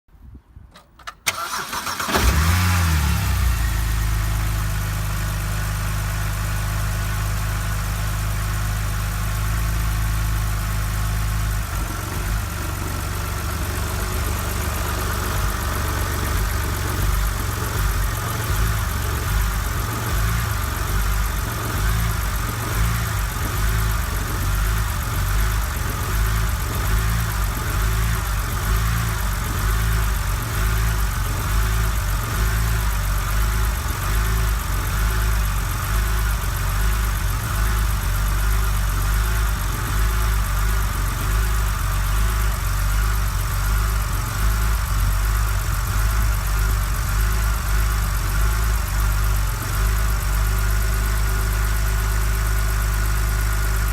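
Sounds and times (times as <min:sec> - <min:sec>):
car engine cranking and starting: 0:00.7 - 0:53.9
car engine idling: 0:00.8 - 0:53.9.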